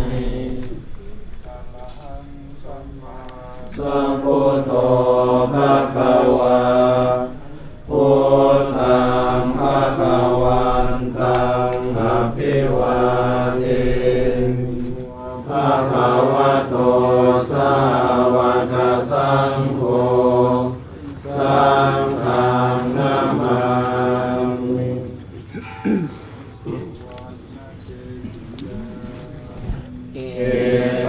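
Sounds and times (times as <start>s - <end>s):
group chanting in unison: 0.0s - 31.0s.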